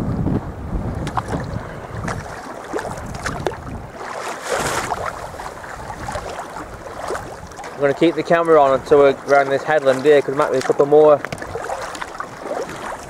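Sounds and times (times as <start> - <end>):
water rushing: 0.6 - 13.0
paddle splashing water: 0.9 - 13.0.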